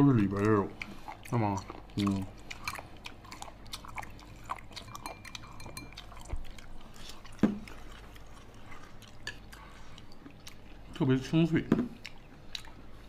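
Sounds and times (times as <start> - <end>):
mouth chewing crisp food: 0.0 - 13.0.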